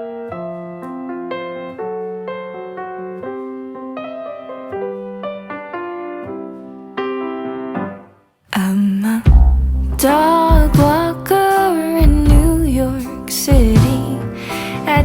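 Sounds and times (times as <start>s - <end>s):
gentle piano melody: 0.0s - 8.3s, 9.4s - 15.0s.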